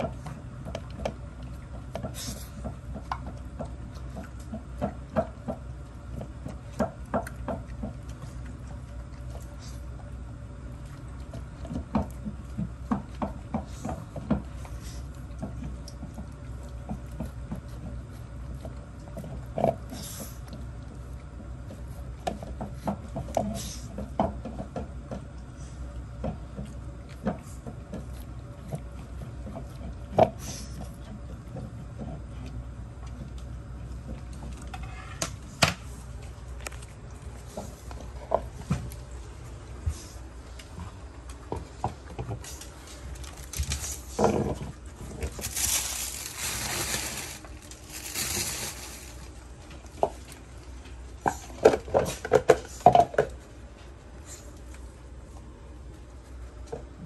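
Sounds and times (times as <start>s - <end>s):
dogs crunching kibble: 0.0s - 57.0s.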